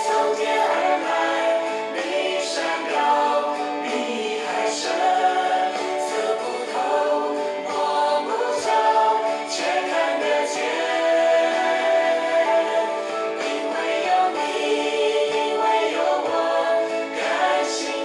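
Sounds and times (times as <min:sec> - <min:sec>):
voices singing in harmony: 0:00.0 - 0:18.0.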